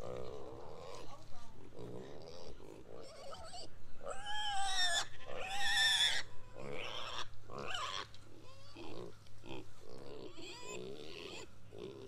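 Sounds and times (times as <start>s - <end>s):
pigs squealing: 1.8s - 12.0s.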